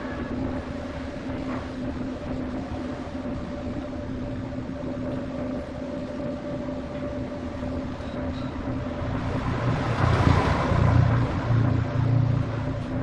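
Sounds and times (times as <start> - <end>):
rough noise with low rumble: 0.0 - 13.0.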